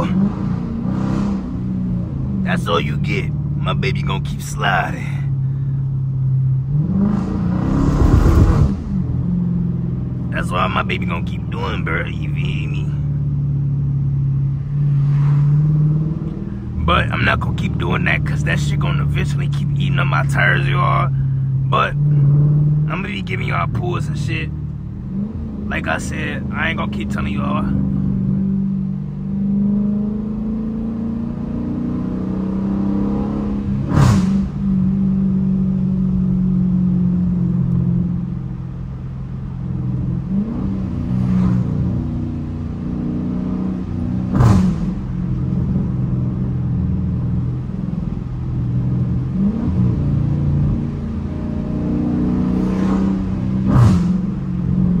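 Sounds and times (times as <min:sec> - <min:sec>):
car engine cruising: 0:00.0 - 0:55.0.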